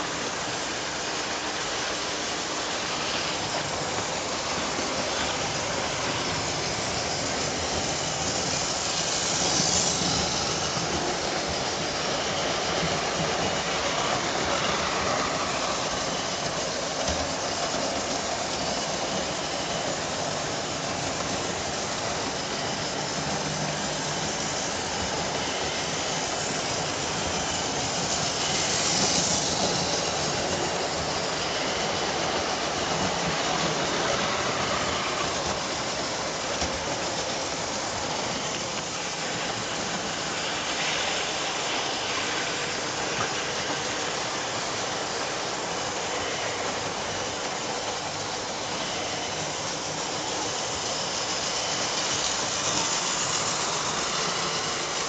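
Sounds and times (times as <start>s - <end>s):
model train rattling whir: 0.0s - 55.0s.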